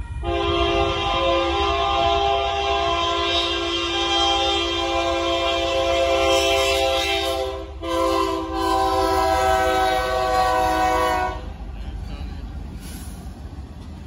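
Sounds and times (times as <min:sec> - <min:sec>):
locomotive air horn chord: 0:00.1 - 0:11.6.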